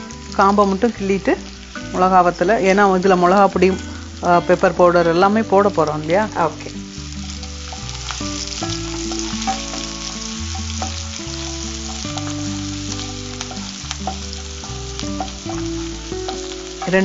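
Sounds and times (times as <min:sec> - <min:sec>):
background music with held notes: 0:00.0 - 0:17.0
onions sizzling in hot oil: 0:00.0 - 0:17.0.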